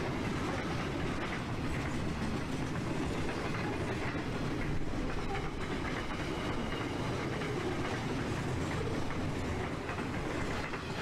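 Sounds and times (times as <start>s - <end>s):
faint rail clicks: 0.0s - 11.0s
freight train wheels rumbling: 0.0s - 11.0s.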